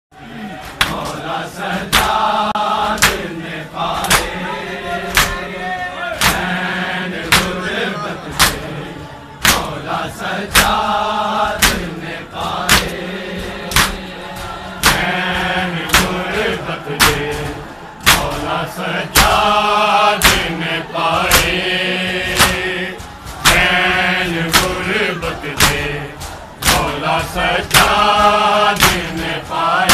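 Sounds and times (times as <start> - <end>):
men chanting a lament: 0.1 - 29.9
chest-beating slaps: 0.6 - 5.6, 6.2 - 8.7, 9.4 - 29.9.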